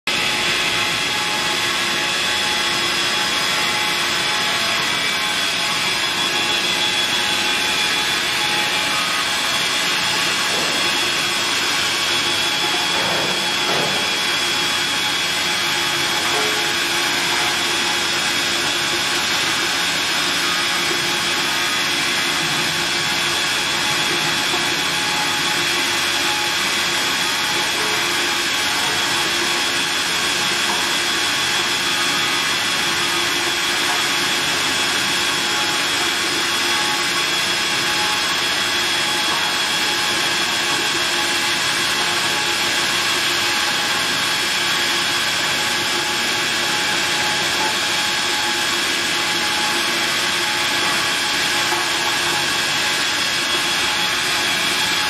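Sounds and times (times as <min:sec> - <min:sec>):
high whine of running wheel: 0:00.1 - 0:55.0.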